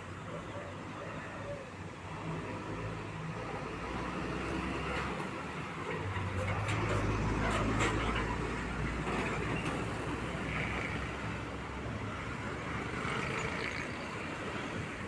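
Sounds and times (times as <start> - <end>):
road traffic noise: 0.0 - 15.0
truck engine passing: 2.1 - 15.0.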